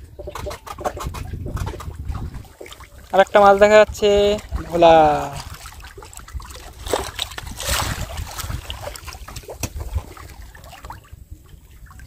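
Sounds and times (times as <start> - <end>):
water splashing and trickling: 0.0 - 12.0
wind rumbling on microphone: 0.0 - 12.0.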